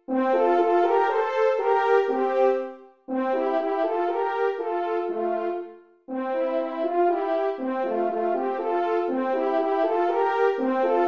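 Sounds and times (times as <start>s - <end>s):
horns playing in harmony: 0.1s - 11.0s.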